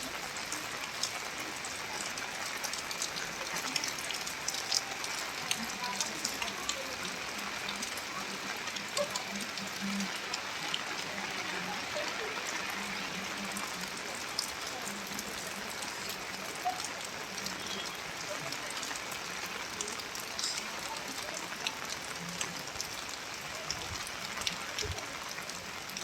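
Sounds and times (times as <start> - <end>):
steady rain falling: 0.0 - 26.0
raindrop ticks: 0.1 - 26.0.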